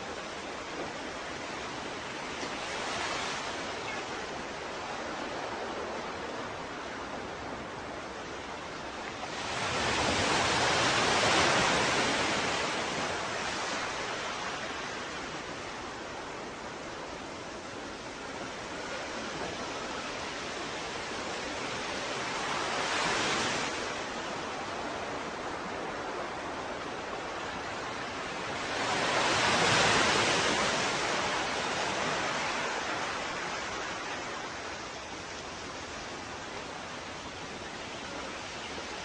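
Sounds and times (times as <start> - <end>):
ocean waves washing onto shore: 0.0 - 39.0
waves breaking: 0.0 - 39.0.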